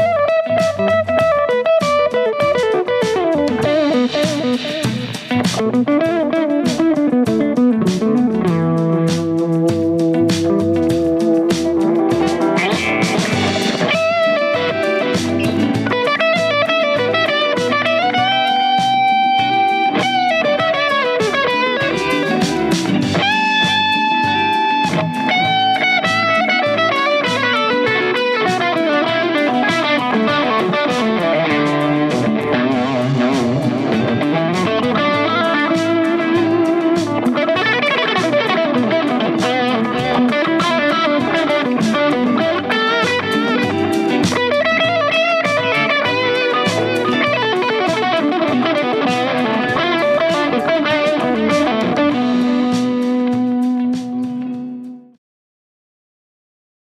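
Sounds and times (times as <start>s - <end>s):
electric guitar melody: 0.0s - 55.2s.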